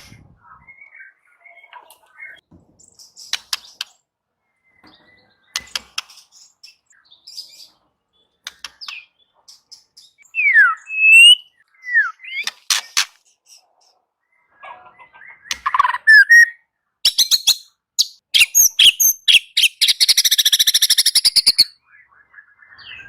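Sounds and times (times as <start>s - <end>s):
songbird clicks and chirps: 0.6s - 14.0s, 15.1s - 23.0s.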